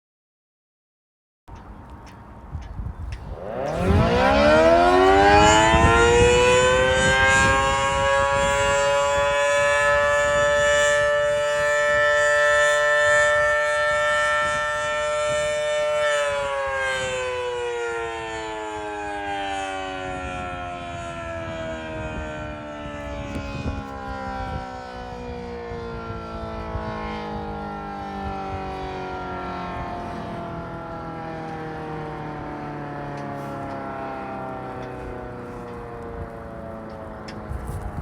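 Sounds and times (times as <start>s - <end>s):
siren winding down: 3.1s - 38.0s.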